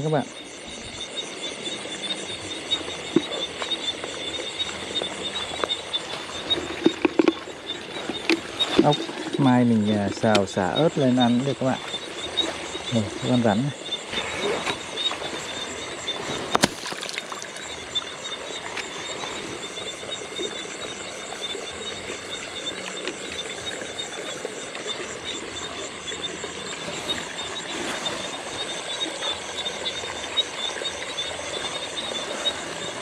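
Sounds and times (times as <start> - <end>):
frogs and insects trilling: 0.0 - 33.0.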